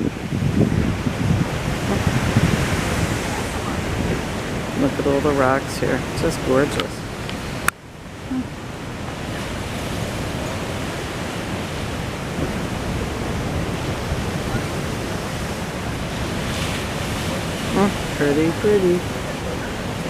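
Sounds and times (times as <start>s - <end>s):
surf breaking on rocks: 0.0s - 20.0s.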